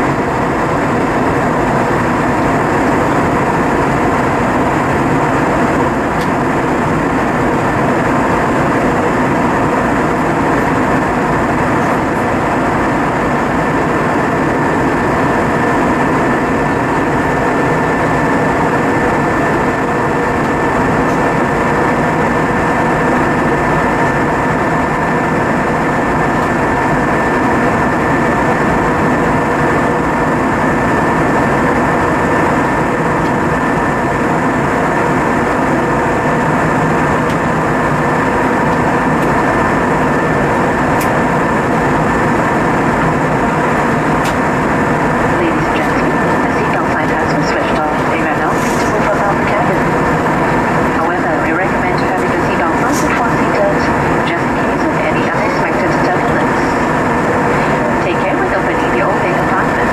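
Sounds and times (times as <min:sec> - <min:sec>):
airplane cabin airflow and engine hum: 0:00.0 - 0:59.9.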